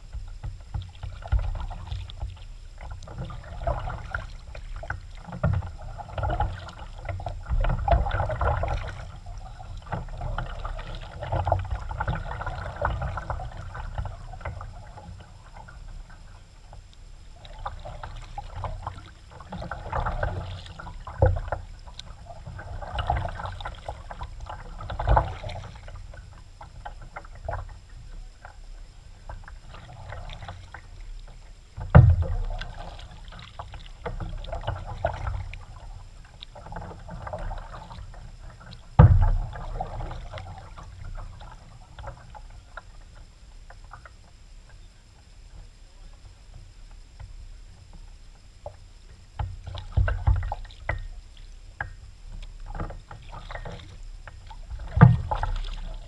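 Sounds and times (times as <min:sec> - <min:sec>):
paddle splashing in water: 0:00.0 - 0:43.1, 0:49.4 - 0:52.0, 0:52.6 - 0:56.0.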